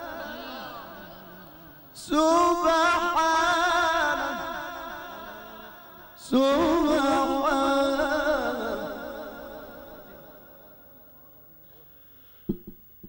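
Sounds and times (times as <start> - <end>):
man chanting over pa system: 0.0 - 11.9.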